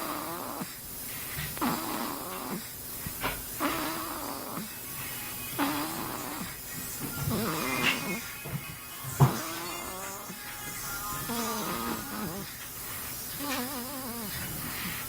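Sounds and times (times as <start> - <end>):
rasping snoring: 0.0 - 8.5, 9.2 - 15.0.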